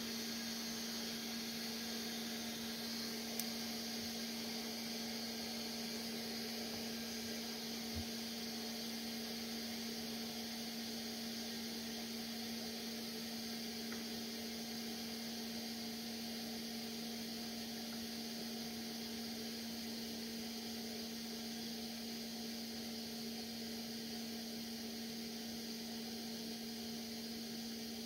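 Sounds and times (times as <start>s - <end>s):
electrical hum with hiss: 0.0s - 28.0s.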